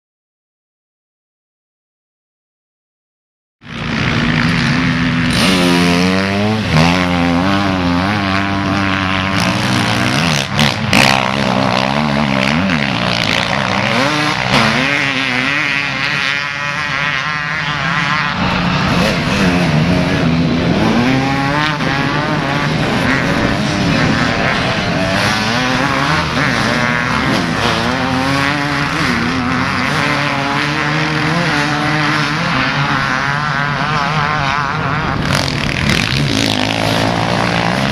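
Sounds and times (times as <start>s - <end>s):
motorcycle engines revving: 3.6s - 37.9s.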